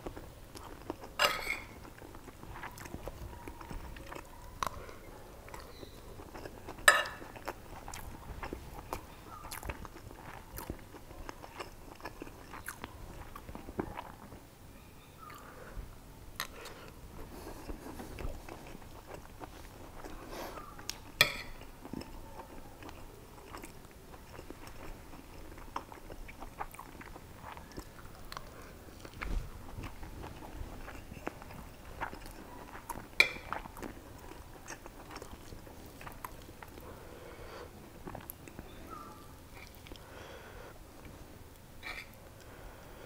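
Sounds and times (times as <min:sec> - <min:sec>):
close-up chewing: 0:00.0 - 0:14.4, 0:16.4 - 0:40.2.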